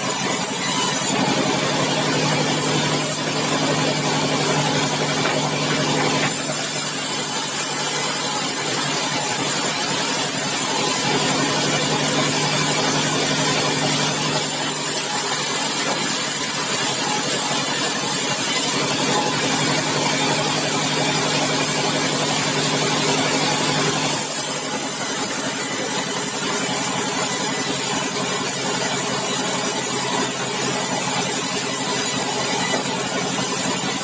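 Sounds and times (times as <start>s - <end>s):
sawmill machinery humming: 0.0s - 34.0s.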